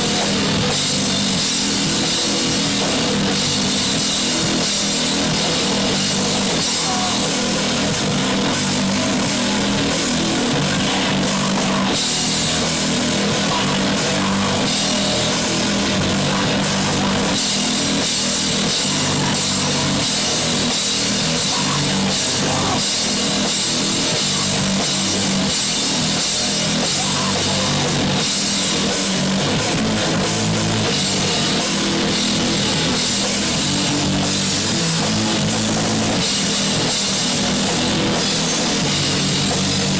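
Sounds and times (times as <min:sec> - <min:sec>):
drum kit and cymbals: 0:00.0 - 0:39.9
guitars: 0:00.0 - 0:39.9
punk rock band playing: 0:00.0 - 0:39.9.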